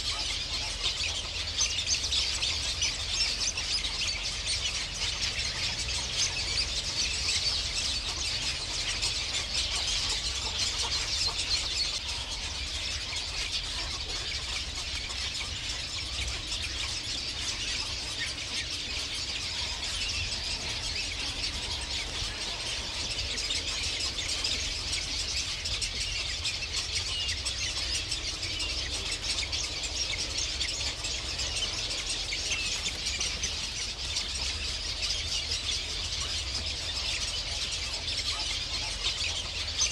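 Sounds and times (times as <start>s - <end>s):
low steady rumble: 0.0s - 39.8s
many birds chirping: 0.0s - 39.9s.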